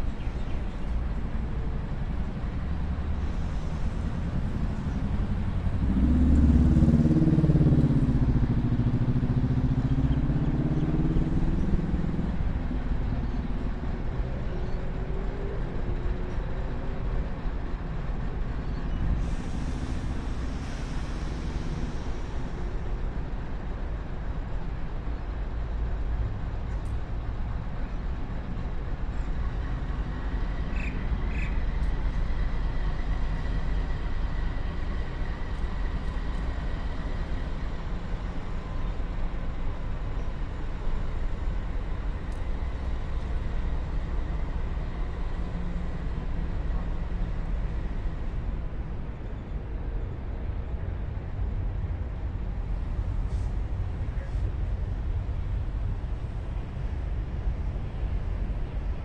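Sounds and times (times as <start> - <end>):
diesel locomotive rumbling: 0.0 - 59.0.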